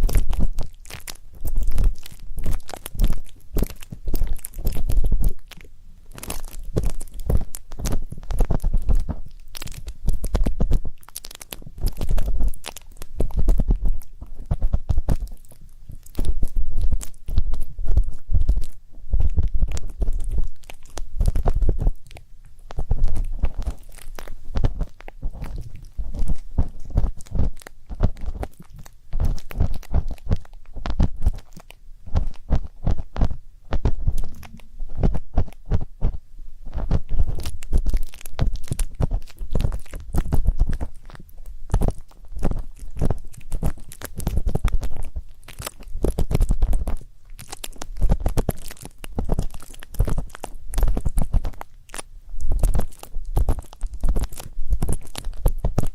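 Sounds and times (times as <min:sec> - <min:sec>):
ear pick scratching: 0:00.0 - 0:55.9.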